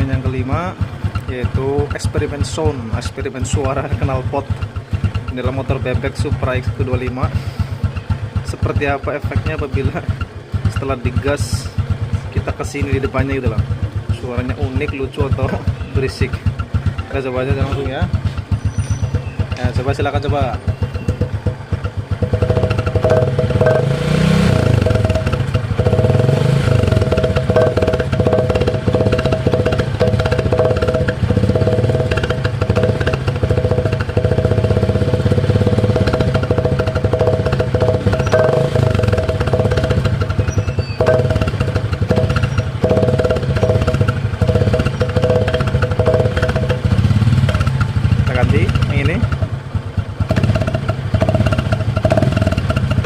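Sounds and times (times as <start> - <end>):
motorcycle engine buzzing: 0.0 - 53.0
motorcycle engine revving: 0.0 - 53.0.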